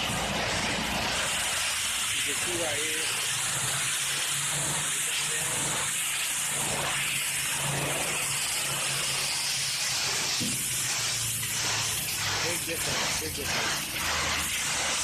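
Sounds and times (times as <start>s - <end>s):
pressure washer jet hissing: 0.0s - 15.0s.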